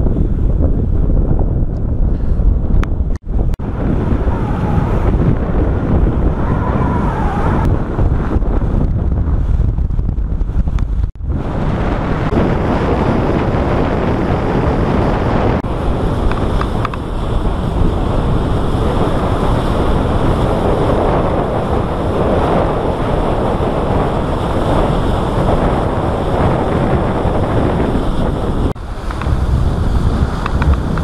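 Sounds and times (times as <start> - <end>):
wind buffeting microphone: 0.0 - 31.0
bow wave rushing: 2.8 - 31.0.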